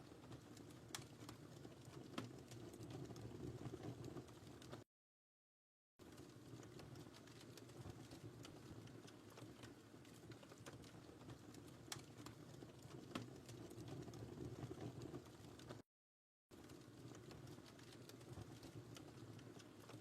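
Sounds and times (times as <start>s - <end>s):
low rumble of flames: 0.0s - 4.8s, 6.0s - 15.8s, 16.6s - 20.0s
wood fire crackling: 0.0s - 4.8s, 6.0s - 15.8s, 16.5s - 20.0s.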